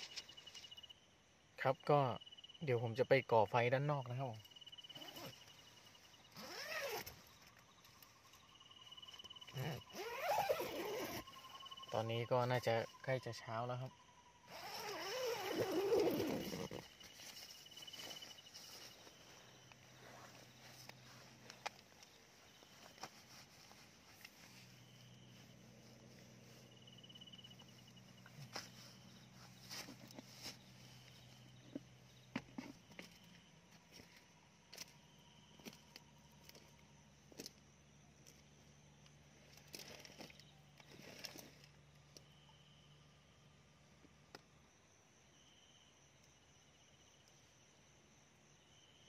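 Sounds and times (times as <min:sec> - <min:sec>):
crickets trilling: 0:00.0 - 0:49.0.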